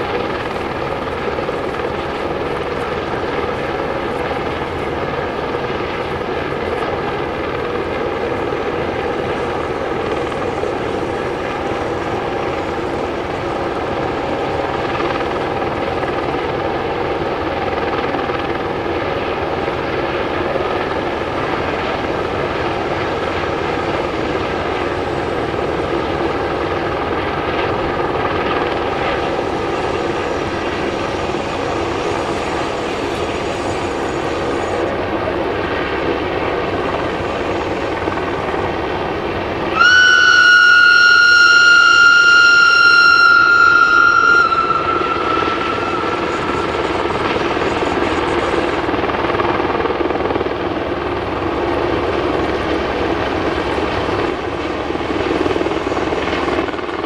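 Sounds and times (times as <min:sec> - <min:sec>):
electric train rumbling: 0:00.0 - 0:50.5.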